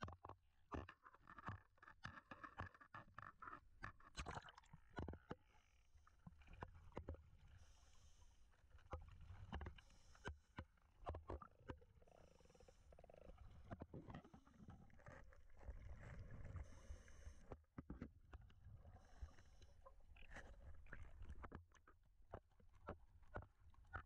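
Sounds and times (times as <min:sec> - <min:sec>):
quiet underwater knocks and clicks: 0:00.0 - 0:24.0.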